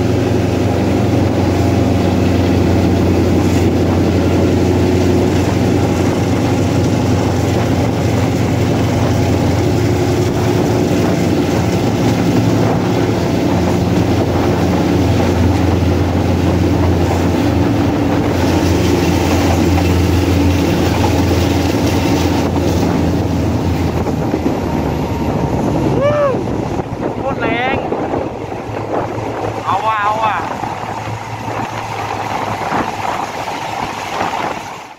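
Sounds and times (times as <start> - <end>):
diesel locomotive engine drone: 0.0 - 34.9.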